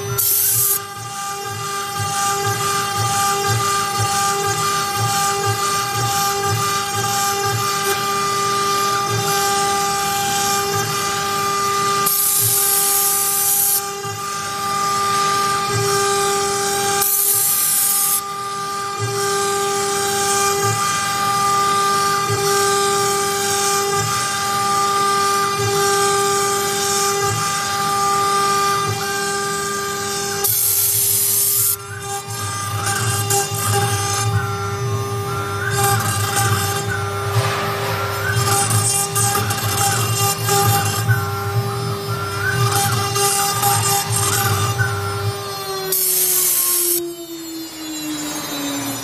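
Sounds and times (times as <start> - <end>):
router spindle high-pitched whine: 0.0 - 49.0.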